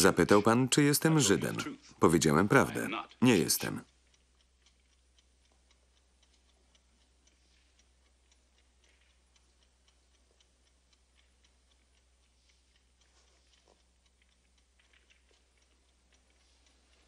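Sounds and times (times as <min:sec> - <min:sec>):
quiet even ticking: 0:00.0 - 0:17.0.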